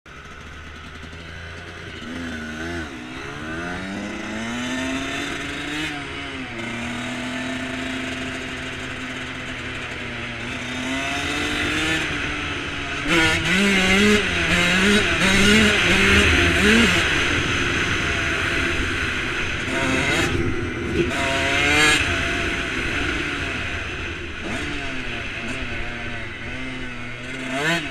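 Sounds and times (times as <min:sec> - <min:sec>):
dirt bike engine revving: 0:00.1 - 0:27.9.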